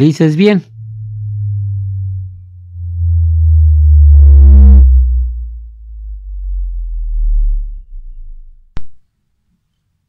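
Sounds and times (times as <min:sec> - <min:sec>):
buzzy overtone: 0:00.0 - 0:08.9
bass tone sweeping downward: 0:00.0 - 0:09.0.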